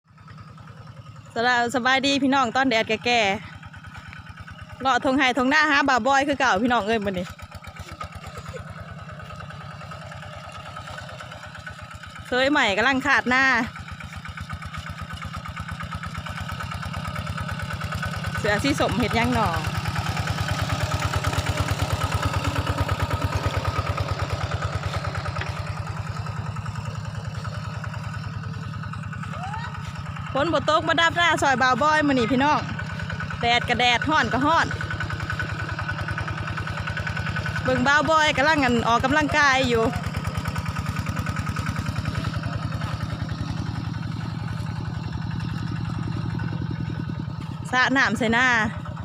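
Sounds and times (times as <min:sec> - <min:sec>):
small engine running: 0:00.1 - 0:49.0.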